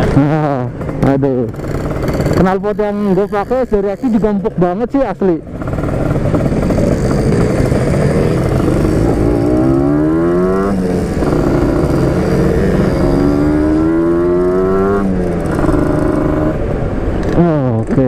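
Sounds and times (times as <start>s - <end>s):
two-stroke motorcycle revving: 0.0s - 18.0s.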